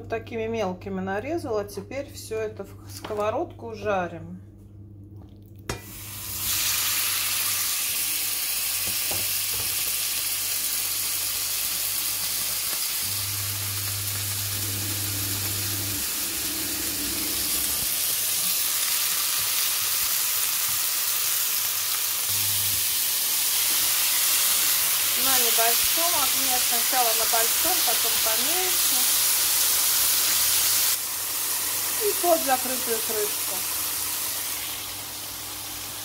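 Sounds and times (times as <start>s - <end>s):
chicken sizzling in a frying pan: 5.8s - 36.0s.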